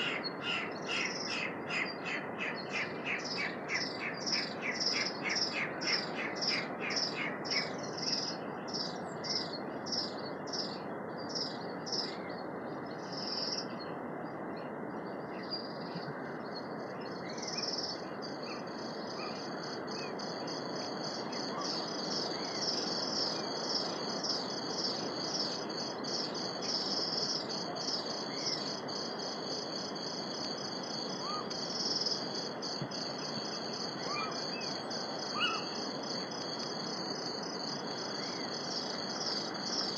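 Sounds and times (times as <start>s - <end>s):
steady low hiss: 0.0s - 39.9s.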